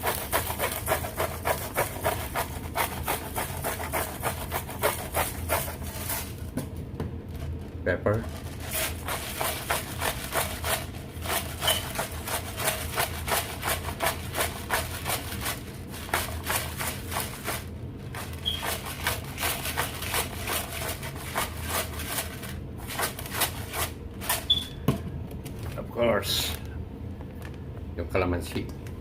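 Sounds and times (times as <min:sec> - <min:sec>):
utensil scraping and knocking: 0:00.0 - 0:06.8, 0:08.2 - 0:25.0
low steady hum: 0:00.0 - 0:29.0.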